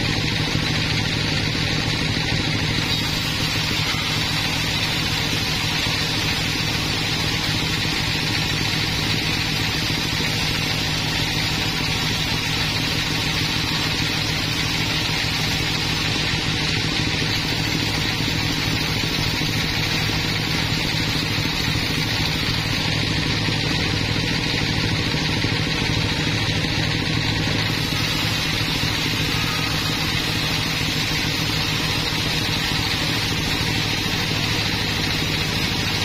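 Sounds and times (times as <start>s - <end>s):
sawmill machine hum: 0.0s - 36.0s
saw blade rasping through wood: 1.6s - 23.4s, 27.4s - 36.0s.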